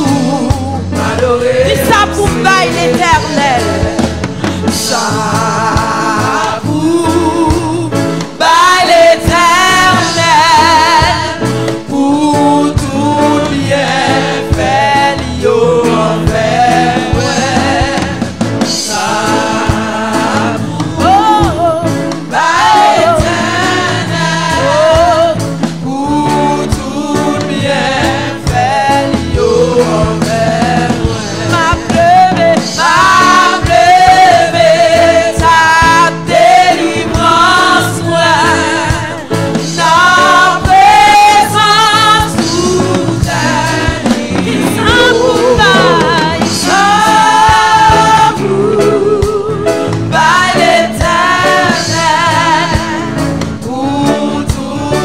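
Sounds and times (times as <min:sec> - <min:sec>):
group singing gospel song: 0:00.0 - 0:55.0
instrumental accompaniment: 0:00.0 - 0:55.0.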